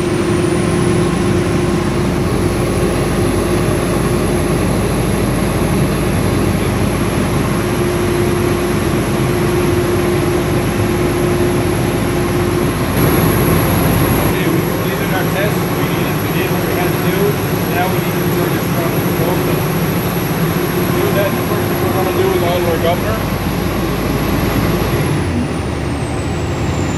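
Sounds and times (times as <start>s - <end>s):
fire truck engine drone: 0.0s - 26.9s
high whine: 0.0s - 26.9s
steady hum: 0.0s - 26.9s.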